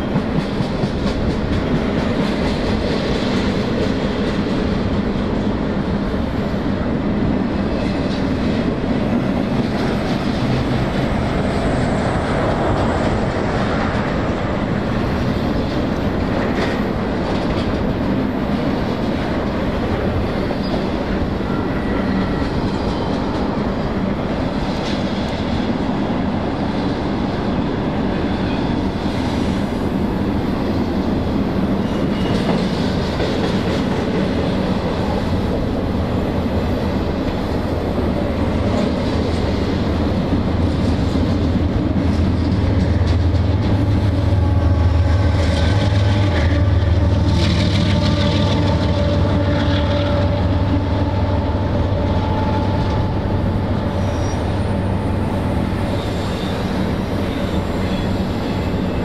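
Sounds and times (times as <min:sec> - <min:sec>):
diesel locomotive drone: 0:00.0 - 0:59.0
train wheels clattering on rails: 0:00.0 - 0:59.0.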